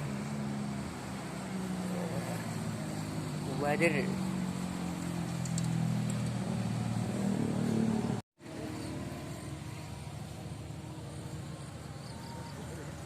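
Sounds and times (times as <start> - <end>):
motor vehicle engine running: 0.0 - 13.0.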